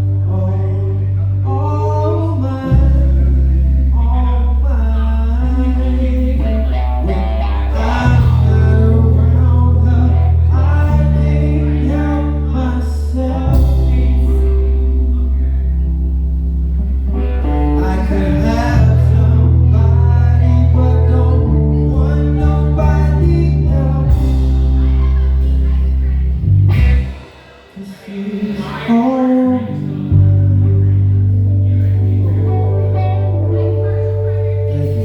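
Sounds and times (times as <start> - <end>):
bending melodic lead line: 0.0 - 35.0
soul band playing: 0.0 - 35.0.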